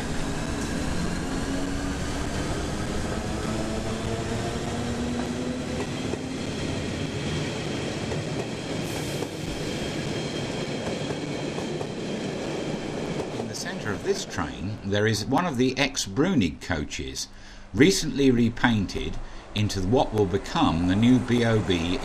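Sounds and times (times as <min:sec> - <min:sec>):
train wheels rumbling on track: 0:00.0 - 0:15.9, 0:17.8 - 0:22.0.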